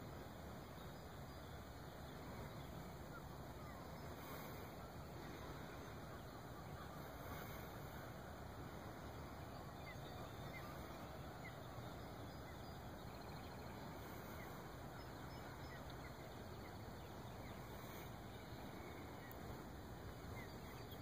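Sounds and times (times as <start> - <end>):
open air background hiss: 0.0 - 21.0.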